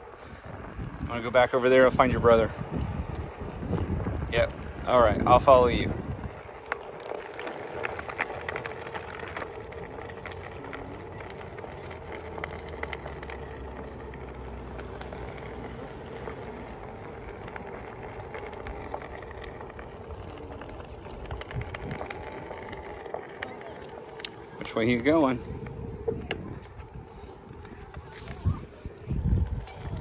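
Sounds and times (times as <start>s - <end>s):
tyre rumble on concrete: 1.9s - 30.0s
small clicks and ticks: 2.3s - 27.0s.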